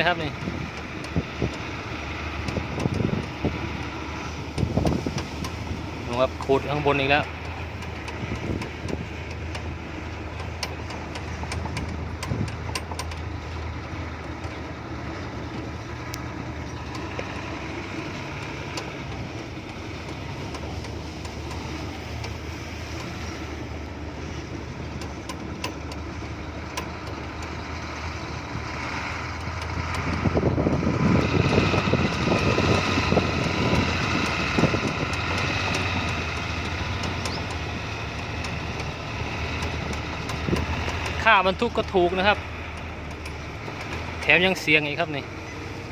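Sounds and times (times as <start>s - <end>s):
truck diesel engine running: 0.0s - 45.9s.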